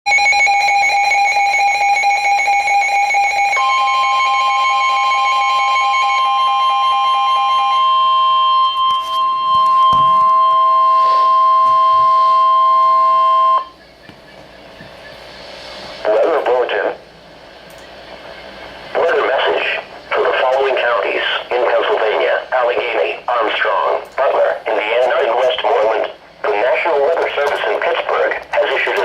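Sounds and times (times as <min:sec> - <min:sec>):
steady warning alarm tone: 0:00.1 - 0:29.0.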